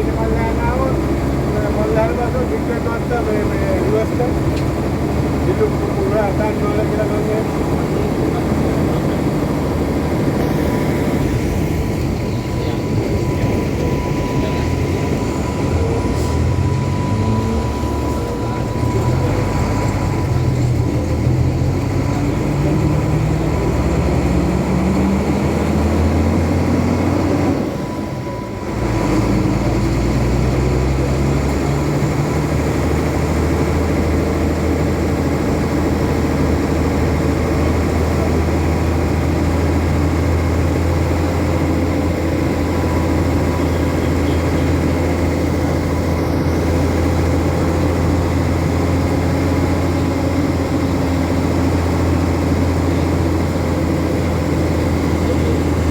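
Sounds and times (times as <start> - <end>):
road noise: 0.0 - 55.9
vehicle engine: 0.0 - 55.9.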